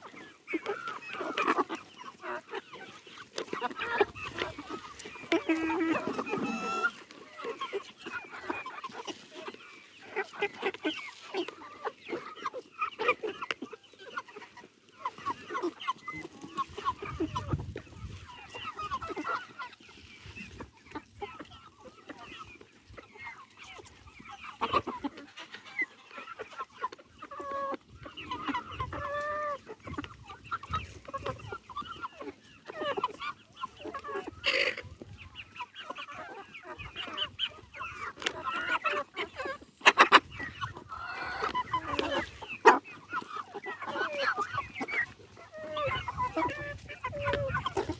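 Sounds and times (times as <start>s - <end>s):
chickens clucking and calling: 0.0s - 47.9s.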